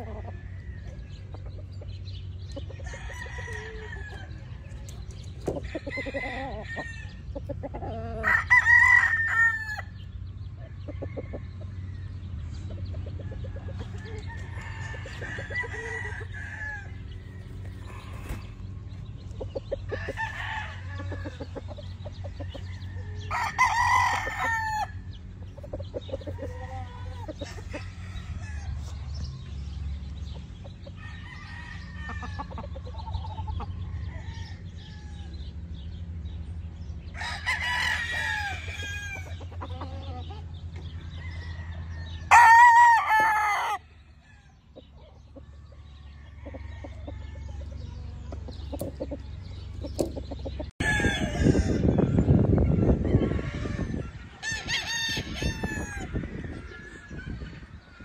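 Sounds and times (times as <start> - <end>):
chickens clucking: 0.0 - 58.0
roosters crowing: 0.0 - 58.0.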